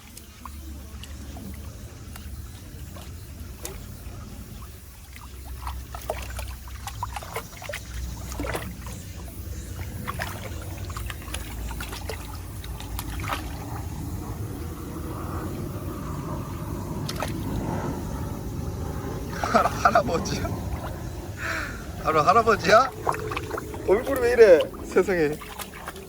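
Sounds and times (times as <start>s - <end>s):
steady low rumble: 0.0s - 26.0s
stream water trickling and splashing: 0.0s - 26.0s.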